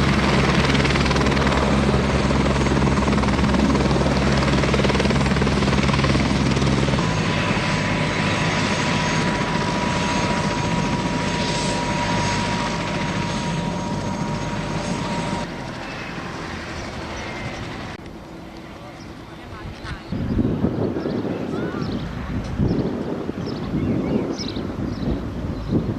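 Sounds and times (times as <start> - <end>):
helicopter rotor beat: 0.0 - 25.9
turbine whine: 0.0 - 25.9.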